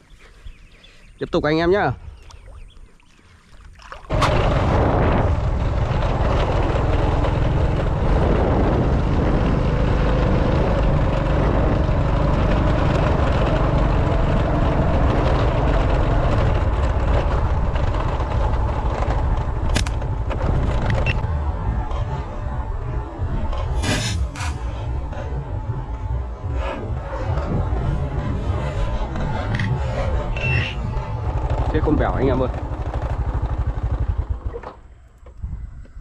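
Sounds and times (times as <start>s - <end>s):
small engine running: 4.1s - 34.9s.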